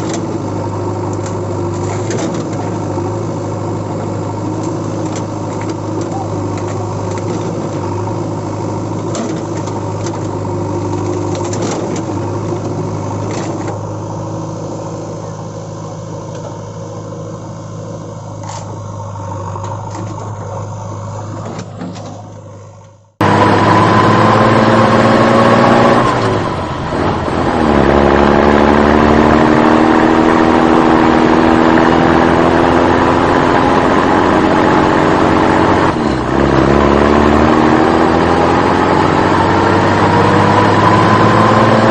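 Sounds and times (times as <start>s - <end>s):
engine revving: 0.0s - 41.9s
vehicle engine running: 0.0s - 41.9s.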